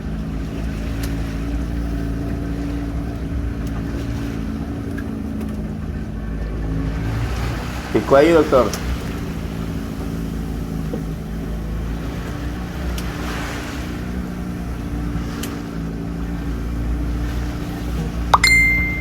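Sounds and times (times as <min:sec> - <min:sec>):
boat engine idling hum: 0:00.0 - 0:19.0.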